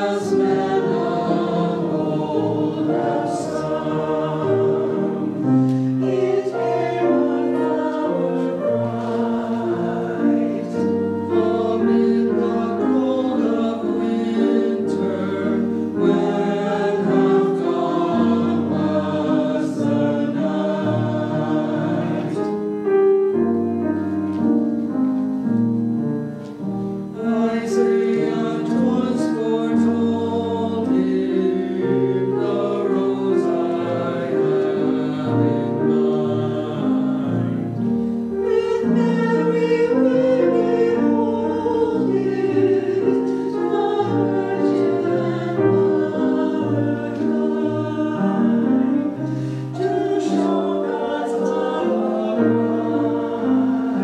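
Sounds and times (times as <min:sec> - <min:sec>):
choir singing in harmony: 0:00.0 - 0:54.0.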